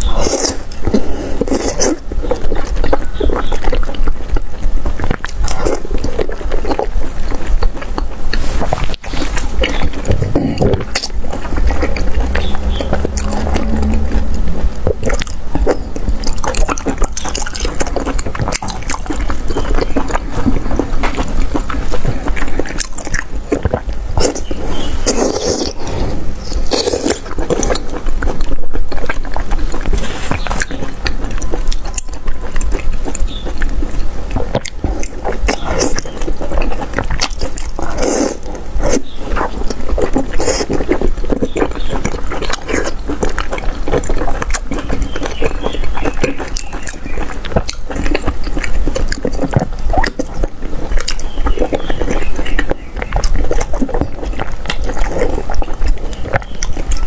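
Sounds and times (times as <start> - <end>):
chewing and slurping: 0.0 - 57.0
mouth clicks and smacks: 0.0 - 57.0.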